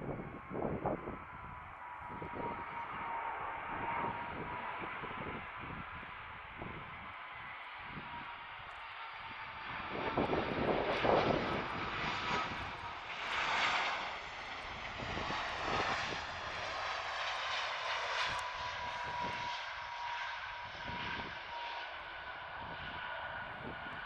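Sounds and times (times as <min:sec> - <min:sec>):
jet engine high whine: 0:00.0 - 0:24.0
jet engine roar: 0:00.0 - 0:24.0.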